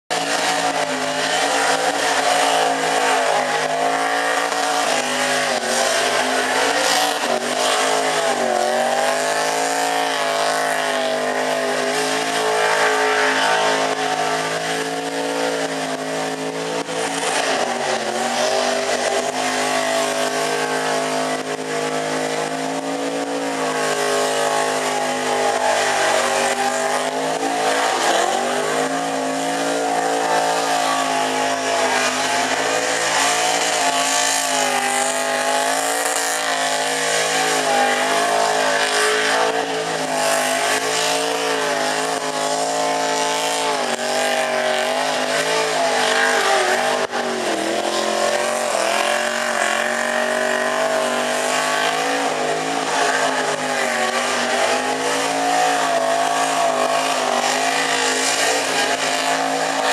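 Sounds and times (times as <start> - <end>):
car engine revving high: 0.0 - 59.9.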